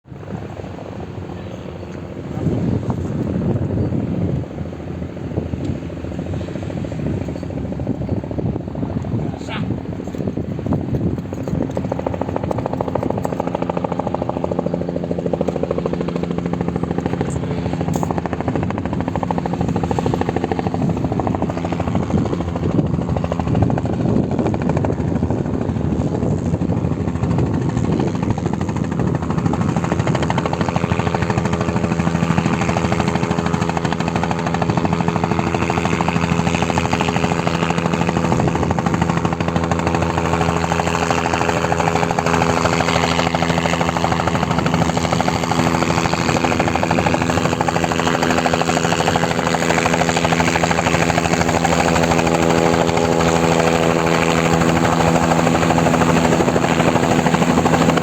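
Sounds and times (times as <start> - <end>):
helicopter rotor chop: 0.0 - 58.0
turbine whine: 0.0 - 58.0.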